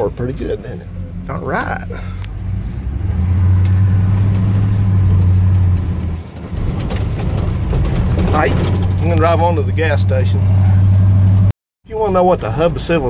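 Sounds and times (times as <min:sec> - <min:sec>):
pickup truck engine droning: 0:00.0 - 0:11.5.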